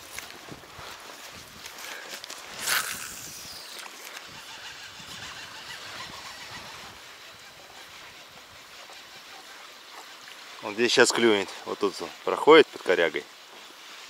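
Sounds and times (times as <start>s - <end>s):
small choppy waves: 0.0s - 14.0s.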